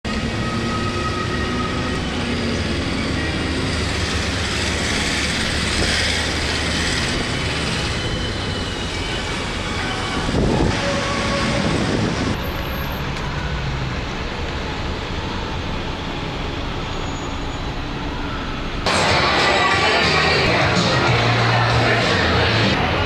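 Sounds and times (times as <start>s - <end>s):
car engine and road rumble: 0.1s - 23.0s.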